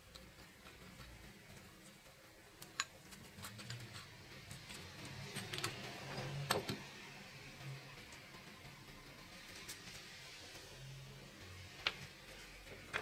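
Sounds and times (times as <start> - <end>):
metal rubbing: 0.0 - 11.1.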